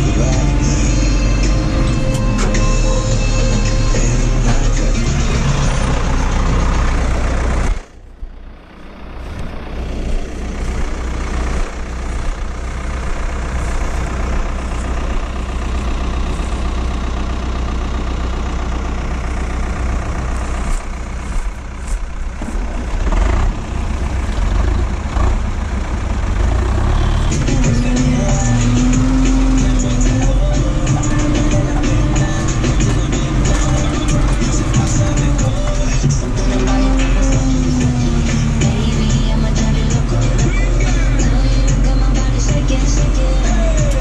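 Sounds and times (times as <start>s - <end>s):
diesel tractor engine running: 0.0s - 44.0s.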